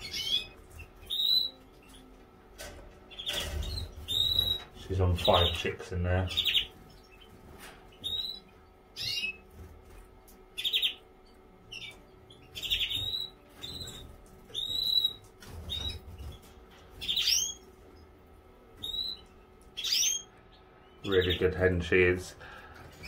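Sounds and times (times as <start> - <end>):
canaries chirping: 0.0 - 23.0
faint steady hum: 0.0 - 23.0.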